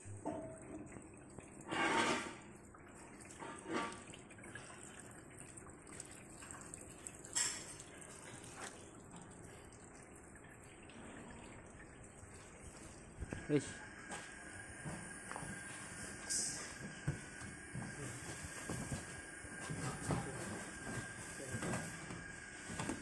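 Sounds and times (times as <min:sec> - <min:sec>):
water trickling into metal drum: 0:00.1 - 0:23.0.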